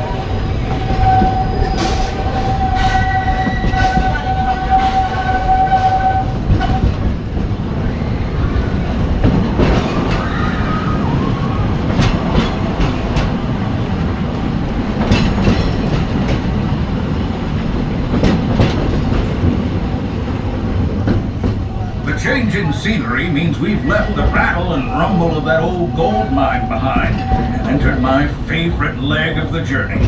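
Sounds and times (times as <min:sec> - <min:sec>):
wheels clicking on rail joints: 0:00.0 - 0:11.0, 0:11.7 - 0:30.0
steam train rumbling on track: 0:00.0 - 0:30.0.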